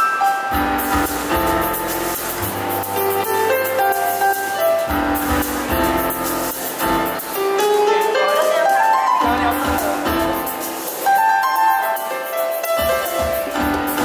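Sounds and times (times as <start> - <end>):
electronic keyboard melody: 0.0 - 14.0.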